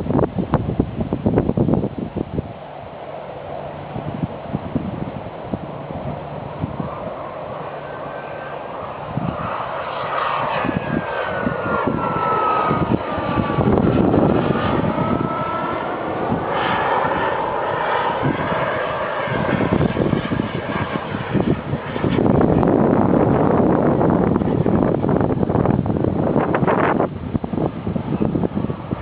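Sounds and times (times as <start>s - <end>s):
wind buffeting microphone: 0.0s - 29.0s
model airplane motor whine: 1.6s - 29.0s.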